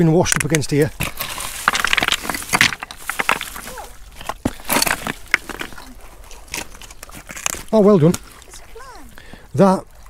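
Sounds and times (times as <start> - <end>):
pebbles and shells clicking: 0.2 - 8.6.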